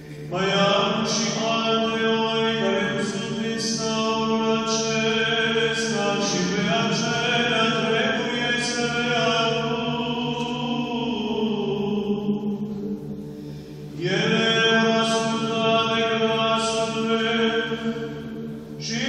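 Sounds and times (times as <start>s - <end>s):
man chanting into a microphone: 0.3s - 12.2s, 14.0s - 18.1s, 18.8s - 19.0s.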